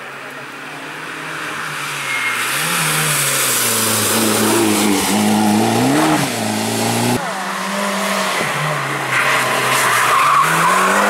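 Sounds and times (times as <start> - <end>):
rally car engine revving: 0.5 - 11.0.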